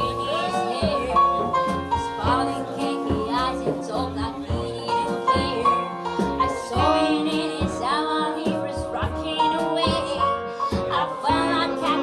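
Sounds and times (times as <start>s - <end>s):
piano double bass and drums: 0.0s - 12.0s
woman singing: 0.0s - 12.0s.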